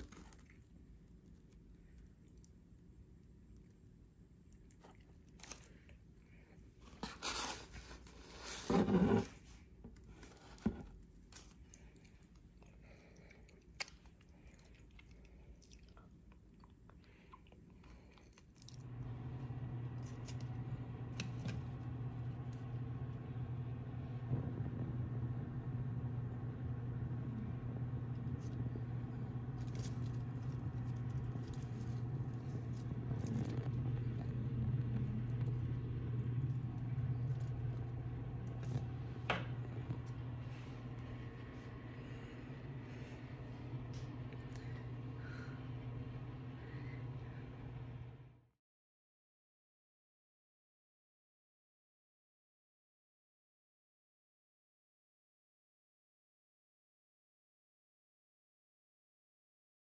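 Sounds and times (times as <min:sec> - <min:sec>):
low electrical hum: 0:00.0 - 0:48.5.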